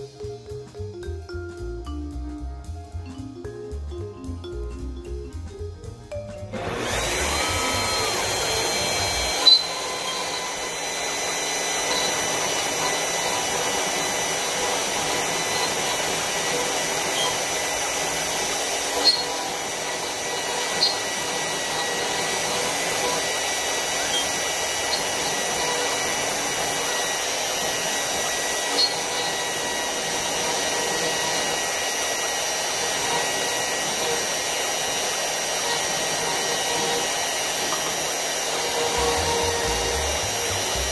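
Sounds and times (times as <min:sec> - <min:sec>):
router spindle whining hum: 0:04.7 - 0:40.9.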